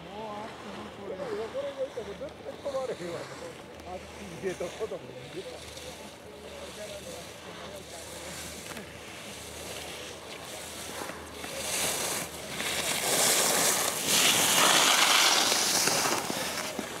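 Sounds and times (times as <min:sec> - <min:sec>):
skis carving on snow: 0:00.0 - 0:17.0.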